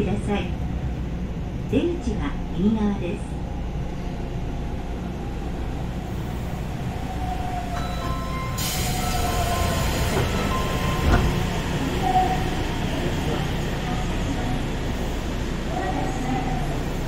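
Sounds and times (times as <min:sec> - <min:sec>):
stopped train humming: 0:00.0 - 0:17.0.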